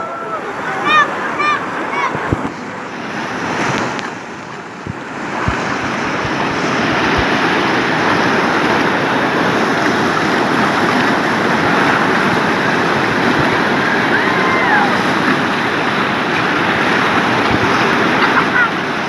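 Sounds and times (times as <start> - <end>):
rushing water: 0.0 - 19.0
wind buffeting microphone: 0.0 - 19.0.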